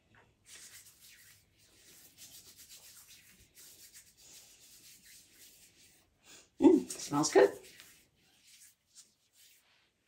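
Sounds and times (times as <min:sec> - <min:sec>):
hands rubbing together: 0:00.5 - 0:09.9.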